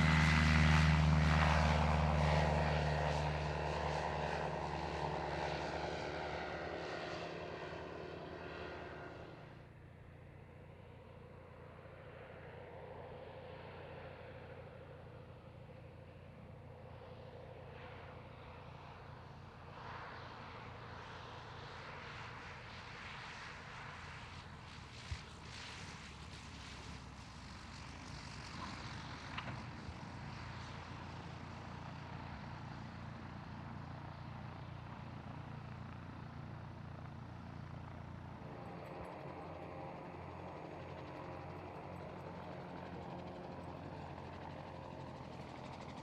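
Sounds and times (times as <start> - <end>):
distant propeller plane droning: 0.0 - 46.0.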